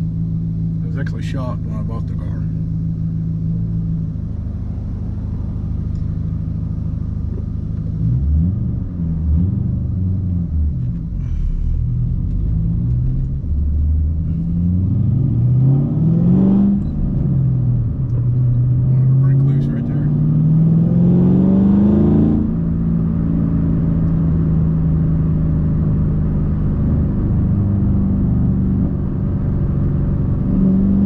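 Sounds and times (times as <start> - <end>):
car engine while driving: 0.0 - 31.0.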